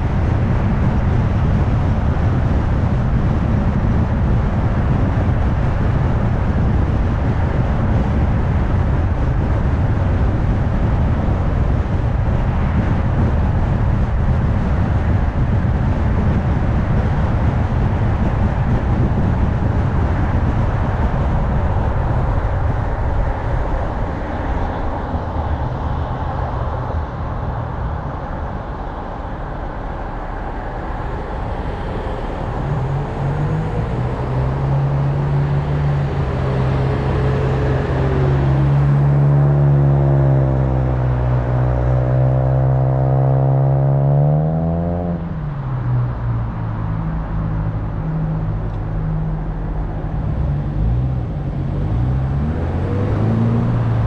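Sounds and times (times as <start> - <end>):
tyre and road noise: 0.0 - 54.0
vehicle engine hum: 0.0 - 54.0.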